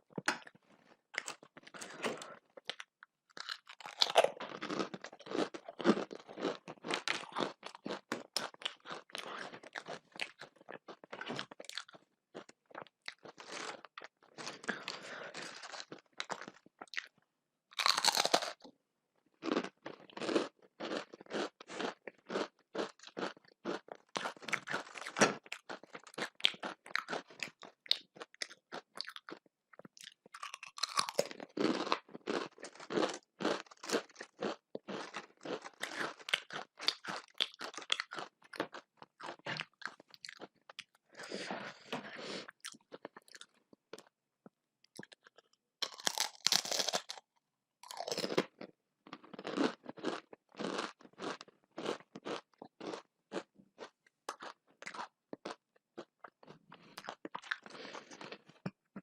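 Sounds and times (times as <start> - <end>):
person chewing crunchy food: 0.0 - 18.7, 19.4 - 44.1, 44.9 - 59.0.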